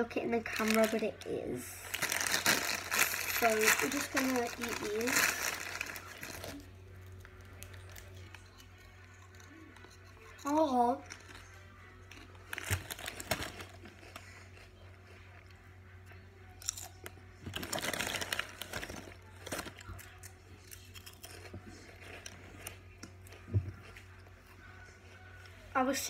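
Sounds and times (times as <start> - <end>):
low steady hum: 0.0 - 26.0
crisps being crunched: 0.4 - 9.9, 11.0 - 15.5, 16.6 - 24.2.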